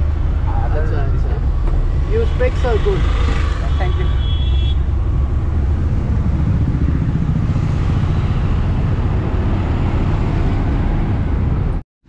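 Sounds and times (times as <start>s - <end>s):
car engine and road noise: 0.0s - 11.8s.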